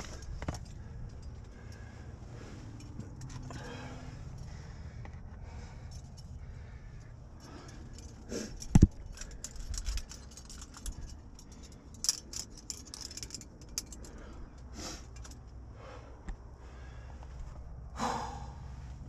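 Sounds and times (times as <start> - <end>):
metal climbing gear clinking: 0.0 - 17.7.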